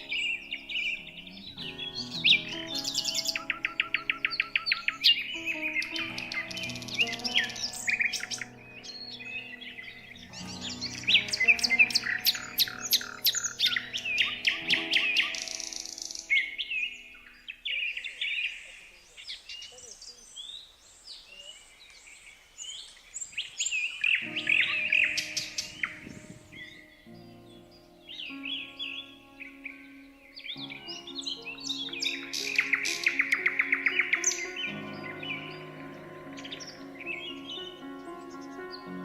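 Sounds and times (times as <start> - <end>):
soft background music: 0.0 - 17.7, 24.0 - 39.0
songbirds chirping and singing: 0.0 - 39.0.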